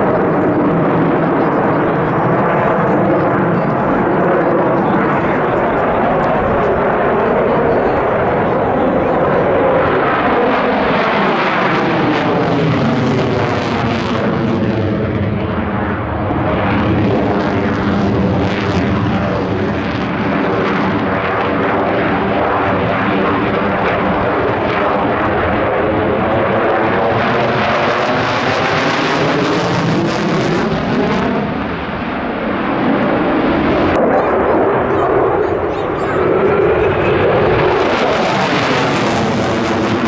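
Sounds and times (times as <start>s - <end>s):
fighter jet roaring past: 0.0s - 40.0s.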